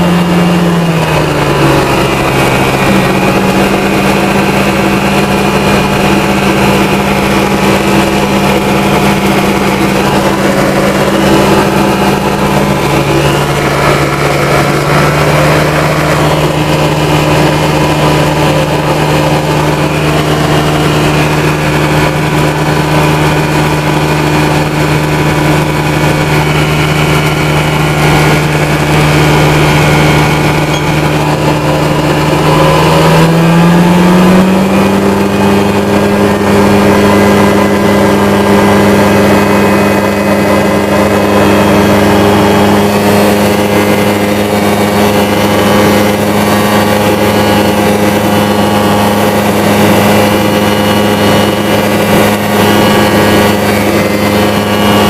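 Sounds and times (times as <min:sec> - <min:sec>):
light aircraft engine running: 0:00.0 - 0:55.0.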